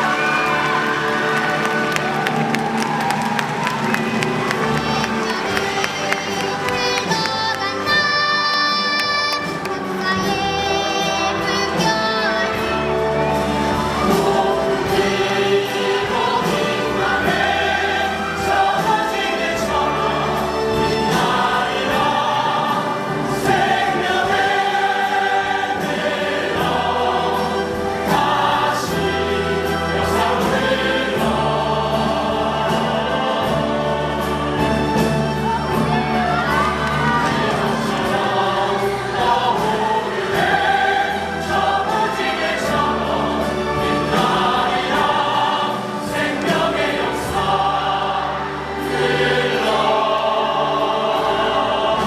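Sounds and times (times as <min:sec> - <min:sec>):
ensemble singing in chorus: 0:00.0 - 0:52.0
instrumental accompaniment: 0:00.0 - 0:52.0.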